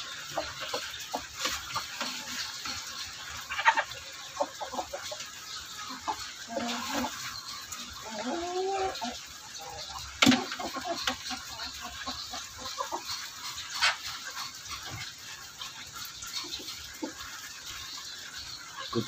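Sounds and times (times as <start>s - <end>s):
chickens clucking: 0.0s - 19.0s
chickens pecking: 0.0s - 19.0s.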